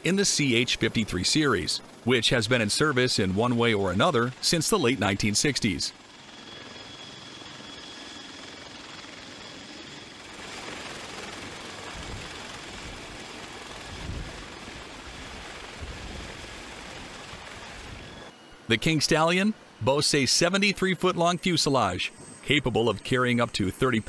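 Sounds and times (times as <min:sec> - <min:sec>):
helicopter rotor rushing: 0:00.0 - 0:24.0
turbine whine: 0:00.0 - 0:24.0.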